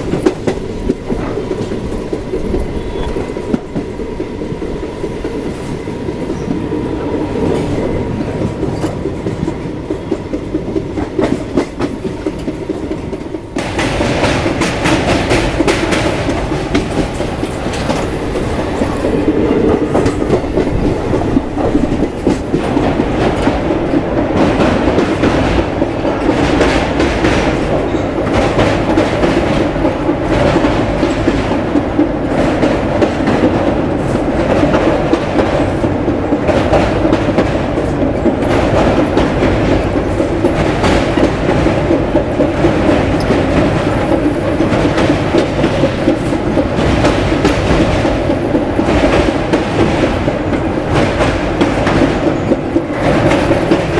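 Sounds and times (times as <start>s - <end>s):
train rumbling: 0.0s - 53.9s
wheels clattering on track: 8.4s - 53.9s.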